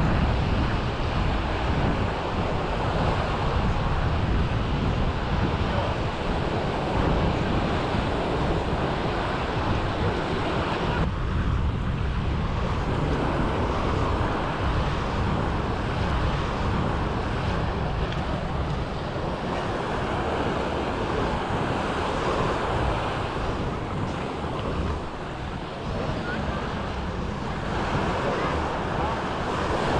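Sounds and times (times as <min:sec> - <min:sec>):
sea waves washing onto beach: 0:00.0 - 0:29.9
wind buffeting microphone: 0:00.0 - 0:29.9.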